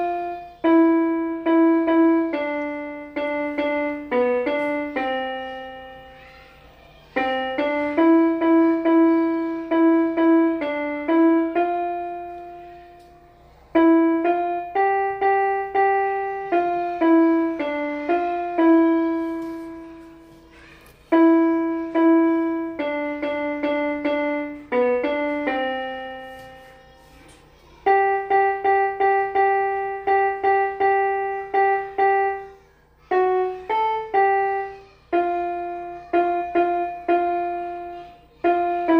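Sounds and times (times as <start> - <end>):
keyboard piano melody: 0.0 - 38.9.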